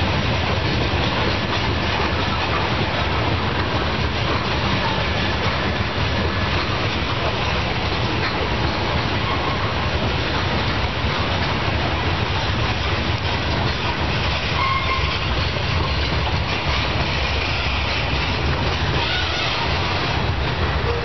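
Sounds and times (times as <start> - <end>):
train wheels clacking on rails: 0.0 - 21.0.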